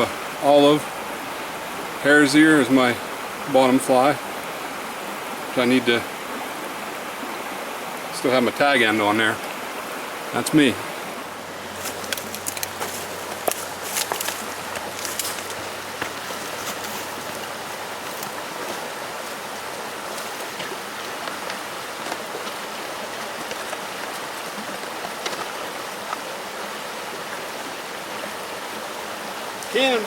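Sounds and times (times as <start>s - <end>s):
stream flowing water: 0.0s - 30.0s.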